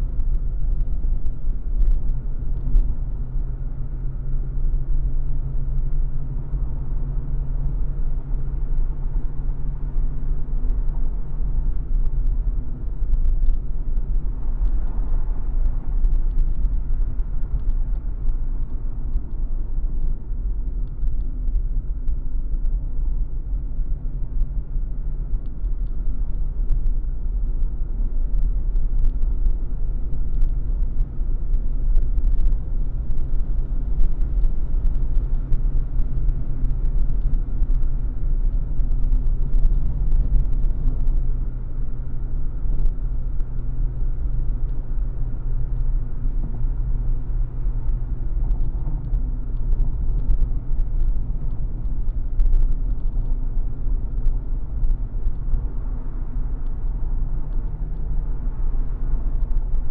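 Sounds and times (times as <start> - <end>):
car engine and road noise: 0.0 - 59.9
faint ticks and rattles: 7.7 - 59.9.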